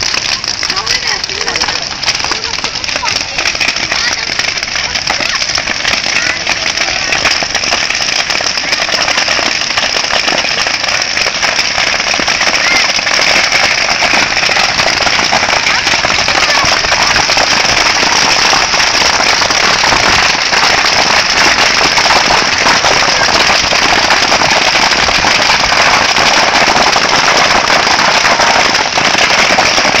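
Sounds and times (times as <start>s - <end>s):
bamboo popping in flames: 0.0s - 30.0s
bonfire crackling: 0.0s - 30.0s.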